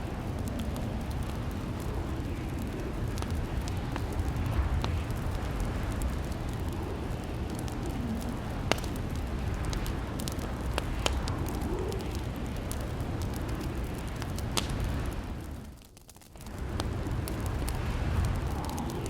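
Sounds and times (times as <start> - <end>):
fire pops and snaps: 0.0 - 19.0
fireplace fire crackling: 0.0 - 19.0.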